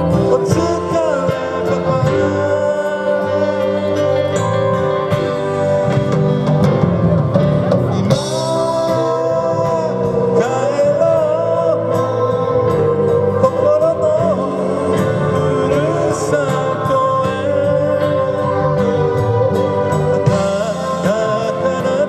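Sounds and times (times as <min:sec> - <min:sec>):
live band playing: 0:00.0 - 0:22.0
melodic lead line: 0:00.0 - 0:22.0.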